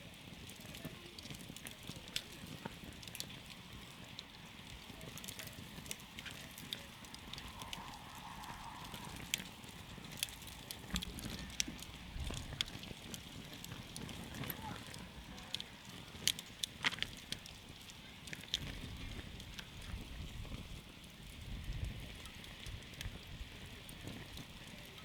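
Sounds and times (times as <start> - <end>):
campfire pops and crackles: 0.0 - 25.0
low rush of flame: 0.0 - 25.0.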